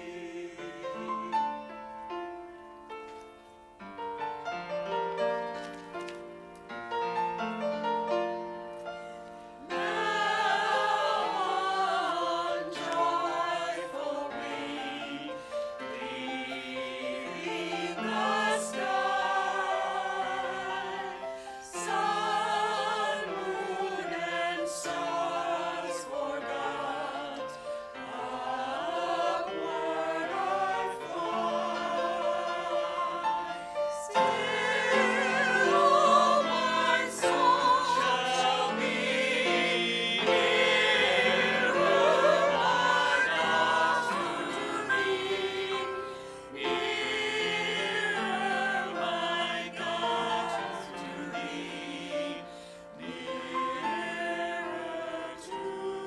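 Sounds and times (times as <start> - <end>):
group singing a hymn: 0.0 - 2.6, 9.2 - 56.0
keyboard accompaniment: 0.0 - 56.0.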